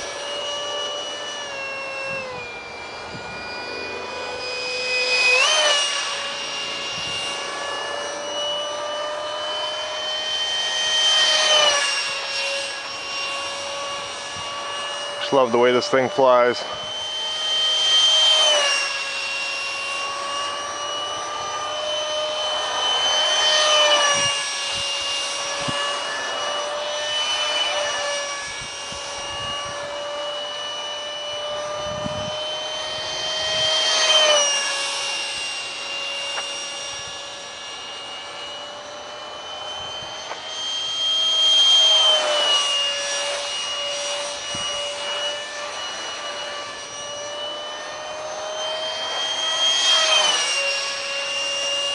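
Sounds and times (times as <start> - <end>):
electric ducted fan whining: 0.0 - 51.9.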